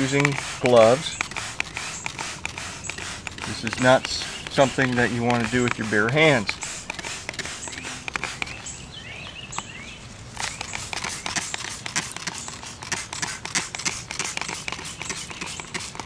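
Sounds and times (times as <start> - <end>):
trigger spray bottle spritzing: 0.0 - 8.8, 10.4 - 16.0.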